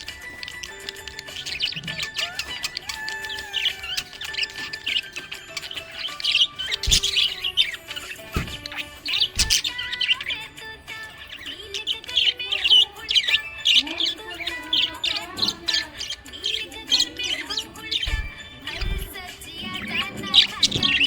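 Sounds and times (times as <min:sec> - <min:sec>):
budgerigar chirping and warbling: 0:00.0 - 0:21.0.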